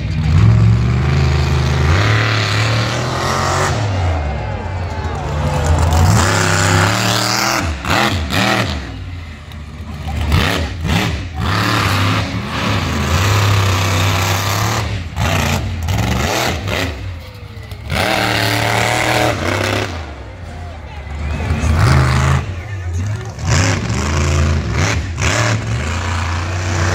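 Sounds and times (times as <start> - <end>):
truck engine revving: 0.0 - 26.9.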